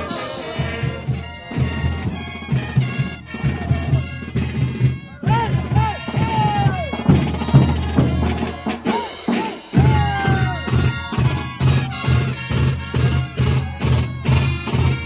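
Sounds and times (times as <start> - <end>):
bass drum beat: 0.0 - 15.0
brass band playing dance music: 0.0 - 15.0.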